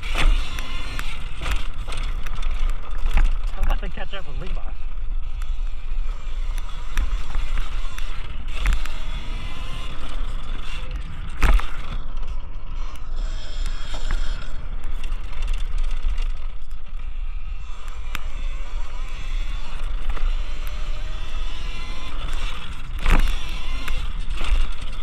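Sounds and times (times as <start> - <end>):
electric dirt bike riding: 0.0 - 25.0.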